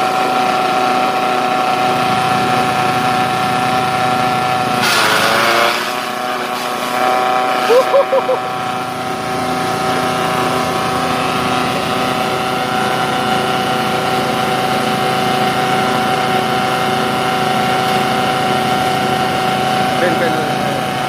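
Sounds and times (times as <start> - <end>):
chaff cutter whining: 0.0 - 21.0.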